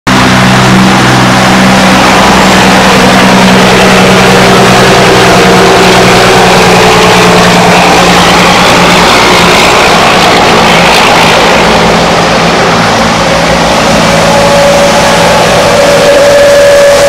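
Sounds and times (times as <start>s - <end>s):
road and tyre noise: 0.0s - 17.0s
diesel truck engine running: 0.1s - 17.0s.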